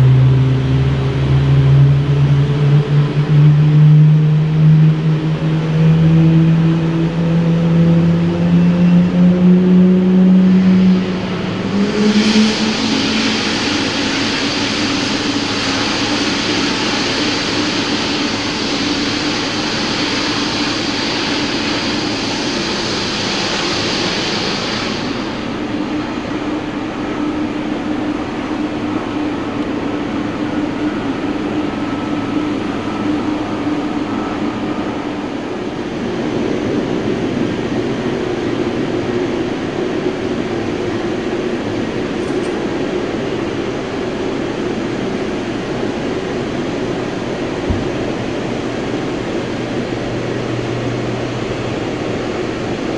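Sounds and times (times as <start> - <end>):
jet engine hiss: 0.0 - 52.9
jet engines humming: 0.0 - 52.9.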